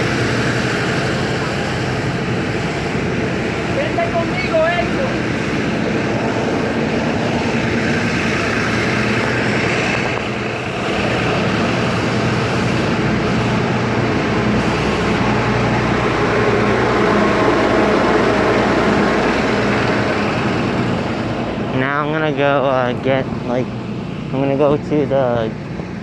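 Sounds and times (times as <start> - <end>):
bus engine humming: 0.0 - 26.0.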